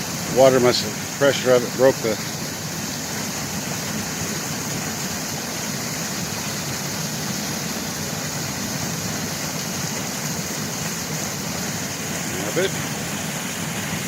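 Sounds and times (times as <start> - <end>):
water gushing from pipe: 0.0 - 14.0.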